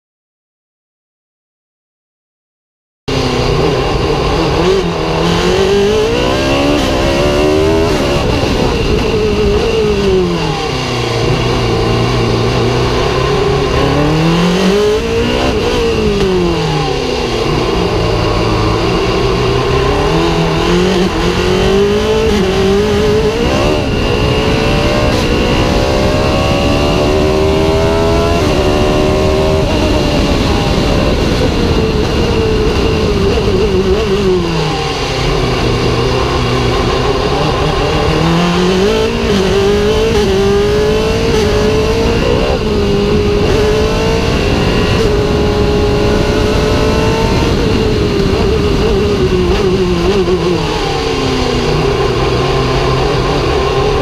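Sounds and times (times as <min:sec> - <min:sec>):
race car engine revving: 0:03.1 - 0:54.0.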